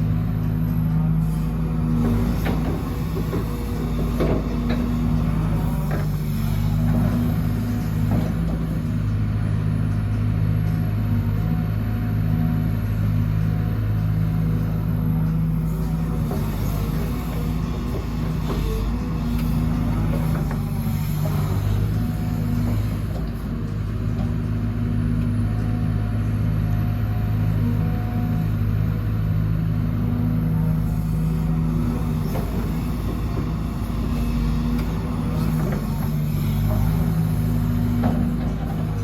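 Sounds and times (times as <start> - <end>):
hydraulic whine: 0.0 - 9.6, 11.2 - 39.0
excavator diesel engine droning: 0.0 - 39.0.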